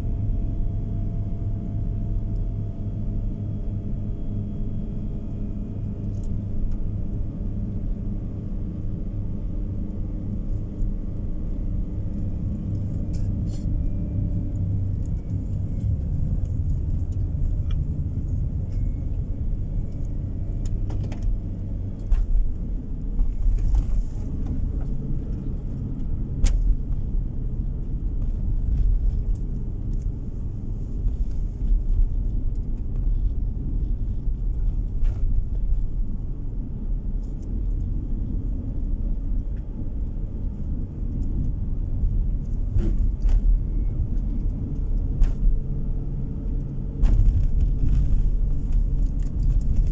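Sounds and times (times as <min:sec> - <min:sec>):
tyre and engine rumble: 0:00.0 - 0:49.9.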